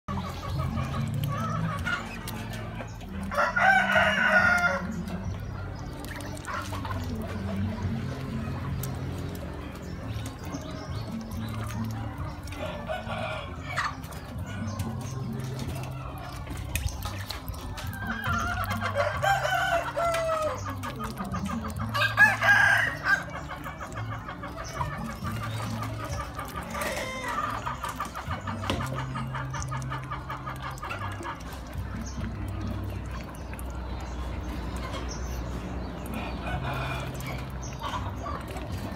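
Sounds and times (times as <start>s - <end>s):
poultry calling: 0.1s - 33.5s.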